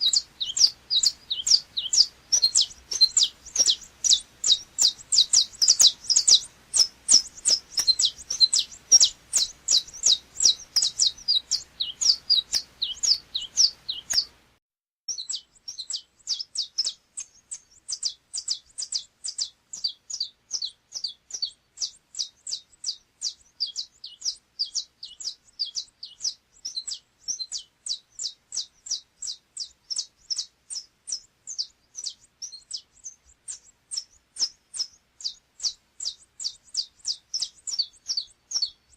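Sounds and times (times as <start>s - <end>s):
finch singing rapid sharp notes: 0.0s - 14.4s, 15.1s - 38.9s.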